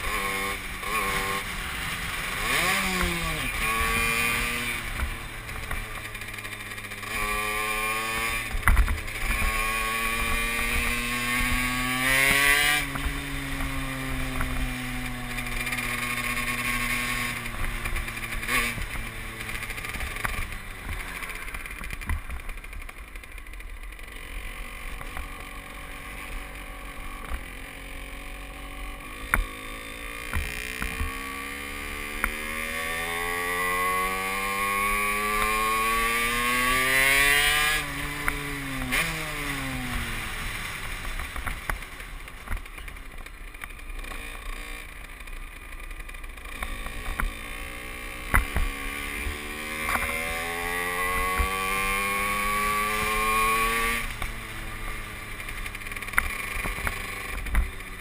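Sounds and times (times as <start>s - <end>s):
moped engine revving: 0.0s - 58.0s.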